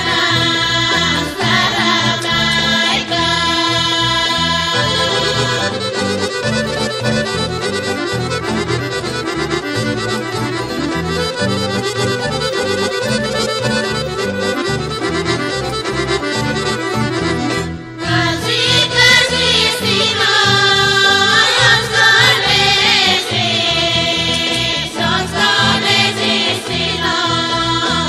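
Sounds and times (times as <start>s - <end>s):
instrumental folk dance music: 0.0s - 28.0s.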